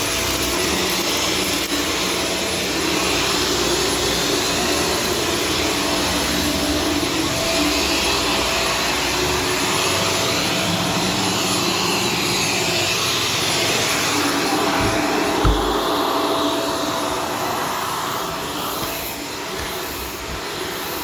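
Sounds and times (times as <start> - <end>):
upright vacuum cleaner running: 0.0 - 21.0.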